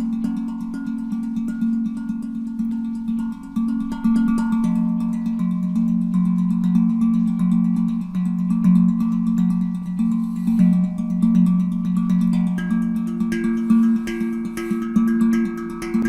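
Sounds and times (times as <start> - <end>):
steel drum played with fingers: 0.0 - 16.0.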